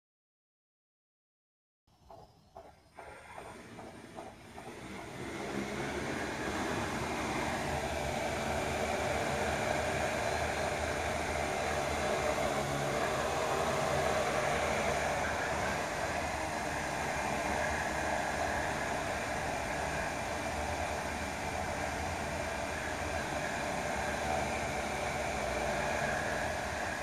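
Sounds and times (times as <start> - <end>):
drone propellers whirring: 2.8 - 27.0.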